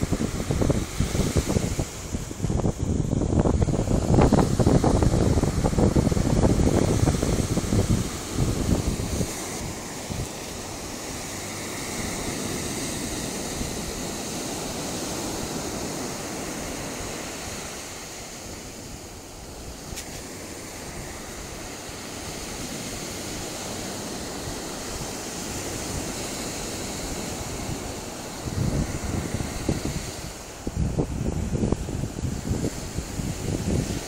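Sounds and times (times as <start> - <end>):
ocean surf breaking: 0.0 - 34.0
wind rumble on microphone: 0.0 - 34.0.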